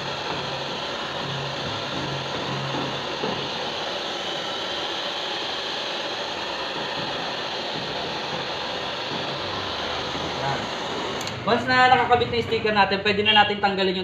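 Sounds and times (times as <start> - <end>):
hair dryer blowing: 0.0 - 13.2.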